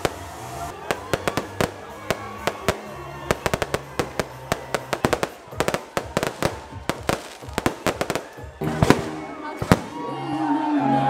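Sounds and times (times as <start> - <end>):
fireworks bangs and crackles: 0.0 - 10.2
music playing: 0.0 - 11.0.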